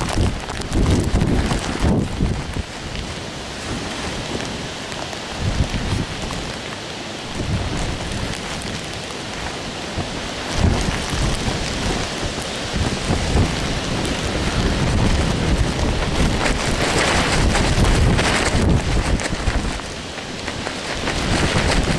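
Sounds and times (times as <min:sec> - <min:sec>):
rain hissing: 0:00.0 - 0:21.9
wind gusts on microphone: 0:00.0 - 0:21.9.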